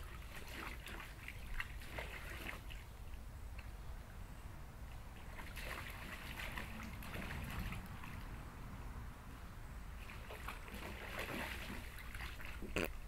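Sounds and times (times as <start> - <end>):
water splashing in a kiddie pool: 0.0 - 3.8, 4.8 - 13.0.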